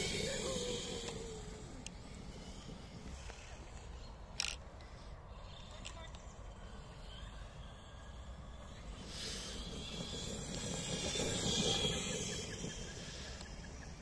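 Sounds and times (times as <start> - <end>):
rc truck motor whine: 0.0 - 14.0.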